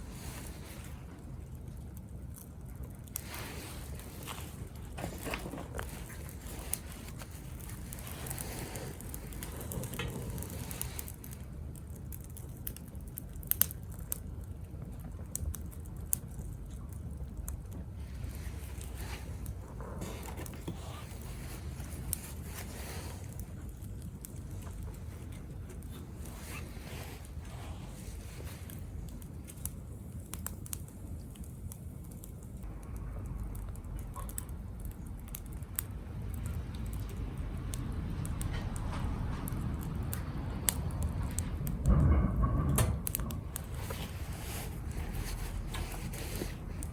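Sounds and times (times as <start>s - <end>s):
low steady rumble: 0.0s - 46.9s
wood fire crackling and popping: 0.0s - 46.9s.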